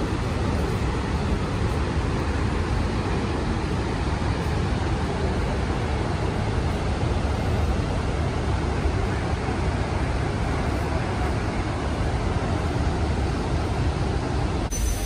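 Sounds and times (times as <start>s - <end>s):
moving vehicle rumble and hiss: 0.0s - 15.0s.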